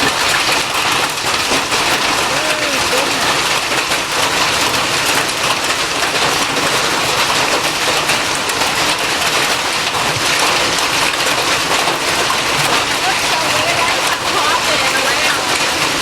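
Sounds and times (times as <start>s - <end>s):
hail falling hard: 0.0s - 16.0s.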